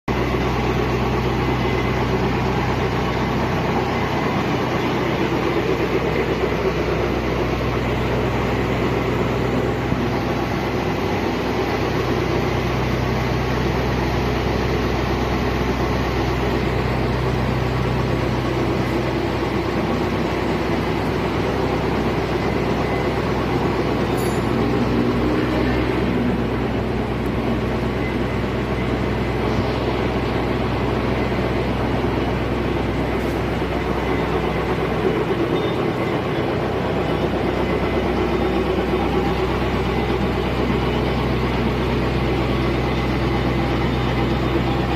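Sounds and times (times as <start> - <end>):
lathe motor humming: 0.2 - 44.9.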